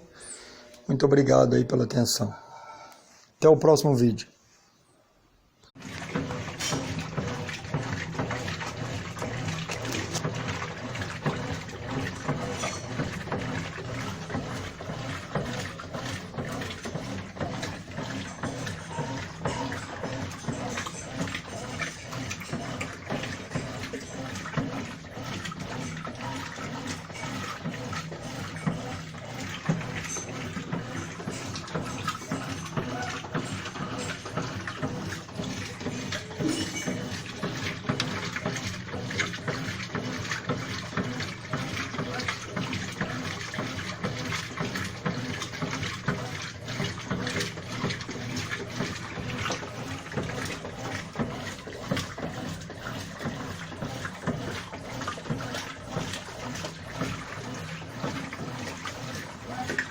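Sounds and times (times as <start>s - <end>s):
water running into washing machine: 5.8s - 59.9s.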